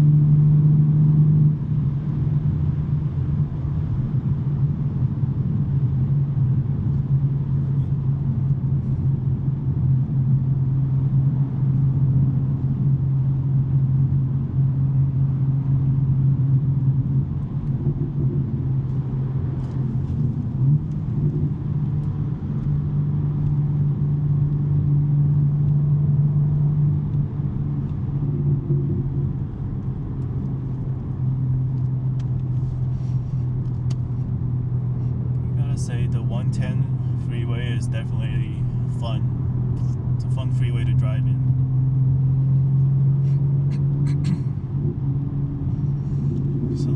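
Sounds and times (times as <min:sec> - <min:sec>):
car engine low drone: 0:00.0 - 0:46.9.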